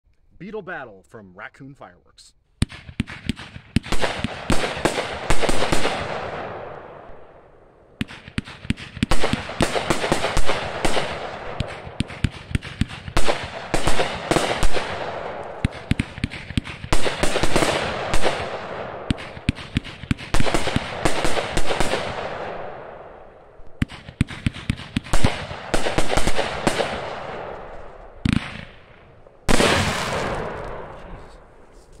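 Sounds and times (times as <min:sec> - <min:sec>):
fireworks firing rapid shots: 0:02.6 - 0:07.3, 0:08.0 - 0:31.5.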